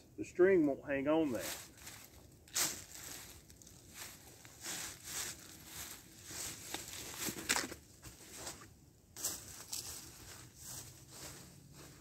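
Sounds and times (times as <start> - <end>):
footsteps in dry leaves: 1.3 - 12.0.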